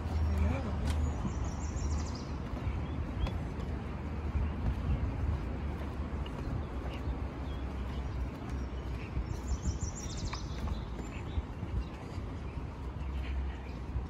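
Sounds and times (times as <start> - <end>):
birds chirping: 0.0 - 14.0
wind rumble on microphone: 0.0 - 14.0.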